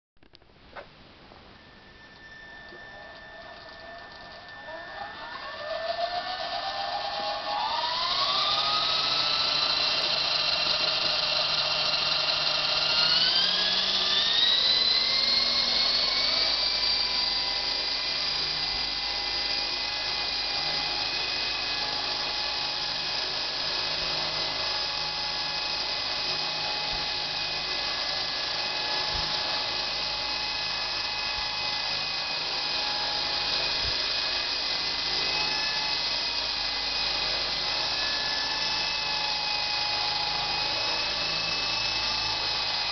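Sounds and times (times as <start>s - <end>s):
toy helicopter rotor whine: 1.4s - 42.9s.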